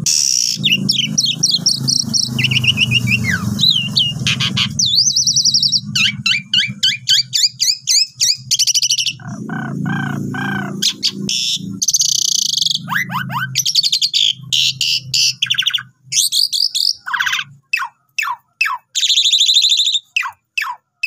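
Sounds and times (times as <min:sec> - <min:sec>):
starling singing: 0:00.0 - 0:21.0.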